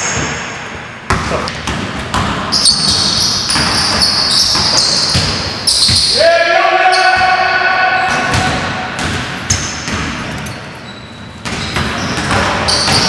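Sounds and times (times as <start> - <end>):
basketballs bouncing on wooden floor: 0.0 - 6.2, 8.0 - 13.0.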